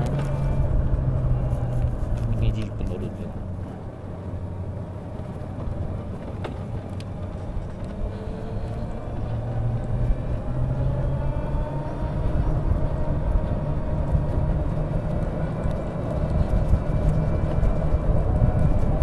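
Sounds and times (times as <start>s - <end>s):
small vehicle engine accelerating: 0.0s - 19.0s.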